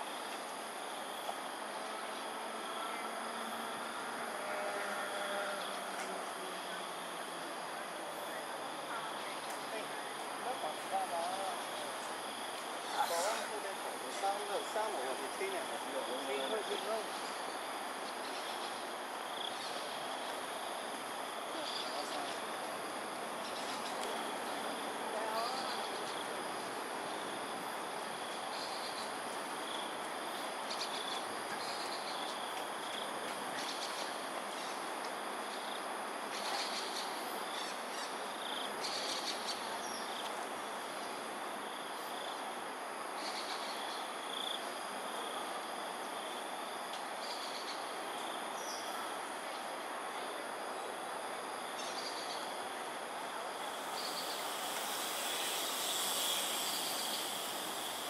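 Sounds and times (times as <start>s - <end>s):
background hiss: 0.0s - 58.0s
insects chirping: 0.0s - 58.0s.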